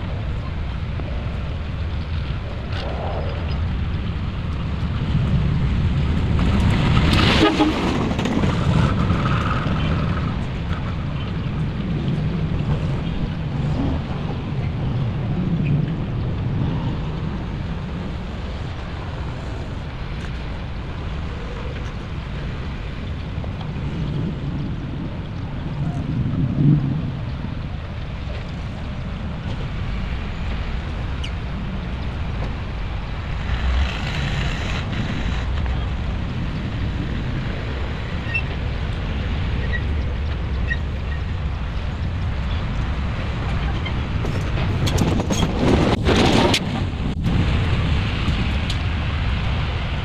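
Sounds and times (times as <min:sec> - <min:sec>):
heavy machinery rumbling: 0:00.0 - 0:50.0.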